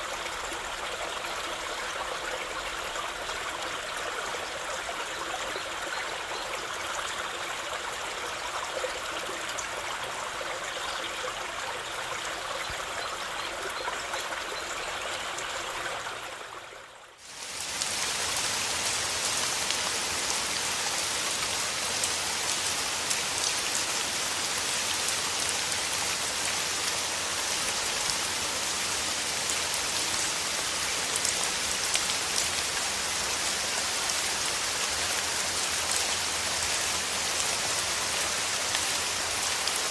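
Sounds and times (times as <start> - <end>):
steady rain: 0.0 - 39.9
stream flowing: 0.0 - 39.9.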